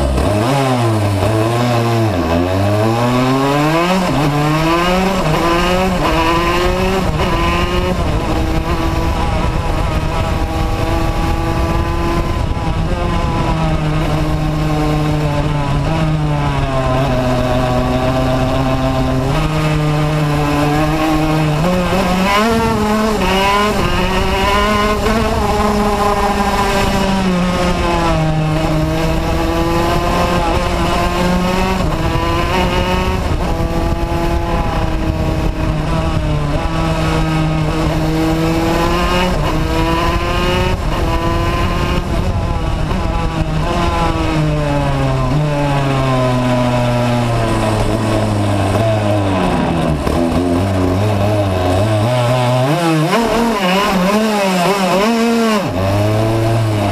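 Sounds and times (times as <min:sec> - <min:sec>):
racing kart engine: 0:00.0 - 0:56.9
wind and road noise: 0:00.0 - 0:56.9.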